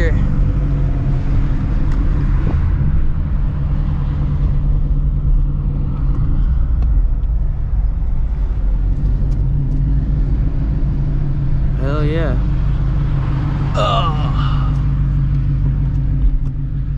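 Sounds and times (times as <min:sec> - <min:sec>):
car engine idling deep exhaust: 0:00.0 - 0:16.9.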